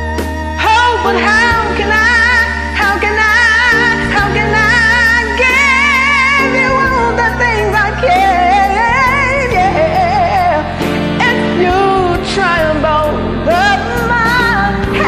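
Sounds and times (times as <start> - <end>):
karaoke backing track: 0.0 - 15.0
woman singing with vibrato: 0.0 - 15.0.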